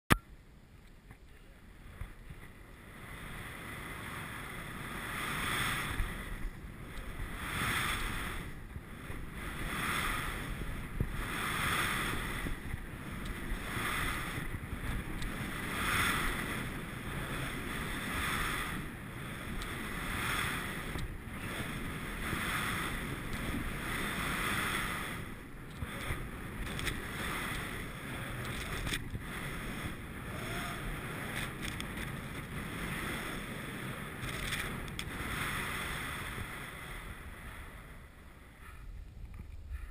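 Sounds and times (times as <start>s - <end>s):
wind rumble on microphone: 0.8s - 39.9s
skis hissing through snow: 2.2s - 38.8s.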